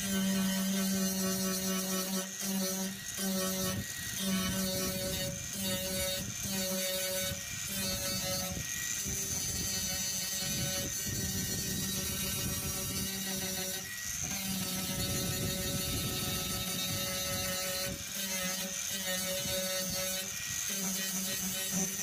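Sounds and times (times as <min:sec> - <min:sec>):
angle grinder sanding metal: 0:00.0 - 0:22.0.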